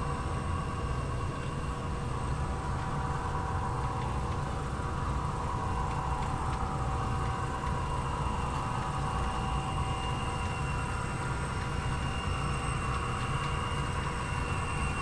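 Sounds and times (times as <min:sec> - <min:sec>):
model train rumbling and whining: 0:00.0 - 0:15.0.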